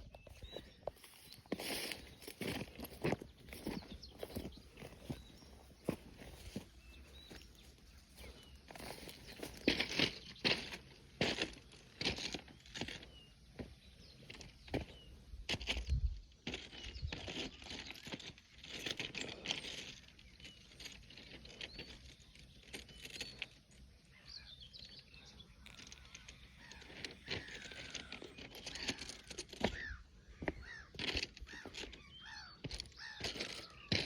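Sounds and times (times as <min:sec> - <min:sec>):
birds chirping and whistling: 0:00.0 - 0:10.7, 0:16.6 - 0:34.0.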